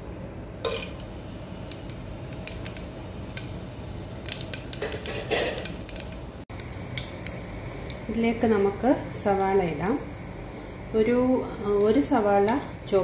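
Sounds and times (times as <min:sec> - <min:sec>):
spices sizzling in hot oil: 0:00.6 - 0:13.0.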